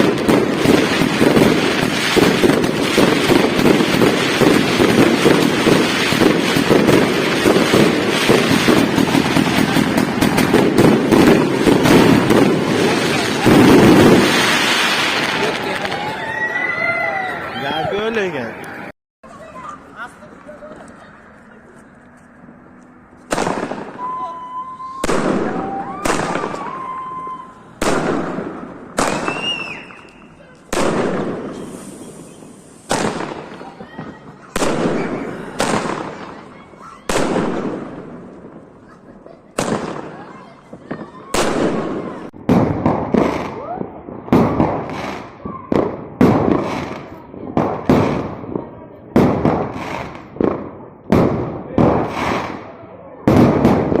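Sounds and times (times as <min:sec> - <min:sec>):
fireworks popping and crackling: 0:00.0 - 0:16.6, 0:19.4 - 0:54.0.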